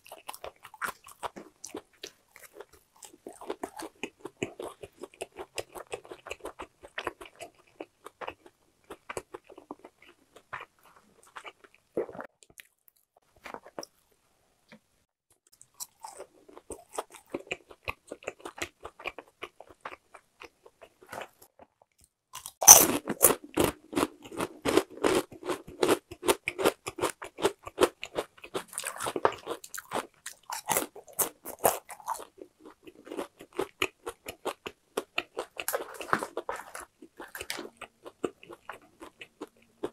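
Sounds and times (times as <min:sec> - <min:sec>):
crunchy fried chicken chewing: 0:00.0 - 0:14.0, 0:15.6 - 0:39.9.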